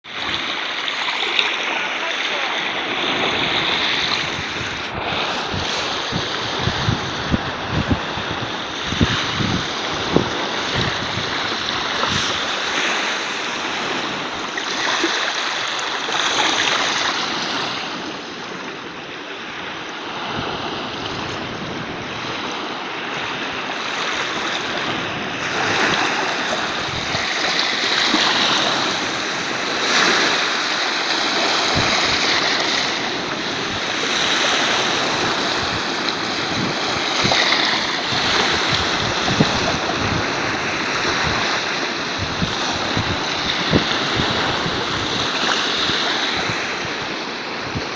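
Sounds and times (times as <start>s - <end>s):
waves washing onto shore: 0.0s - 47.9s
wind hitting microphone: 2.7s - 47.9s.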